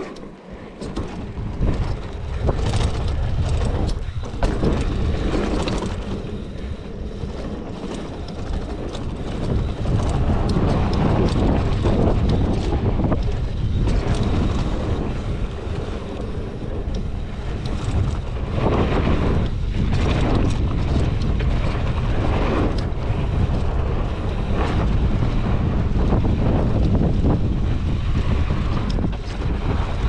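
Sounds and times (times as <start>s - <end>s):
bike clicks and rattles: 0.0s - 30.0s
tyres rumbling on dirt: 0.0s - 30.0s
wind rushing over microphone: 0.0s - 30.0s.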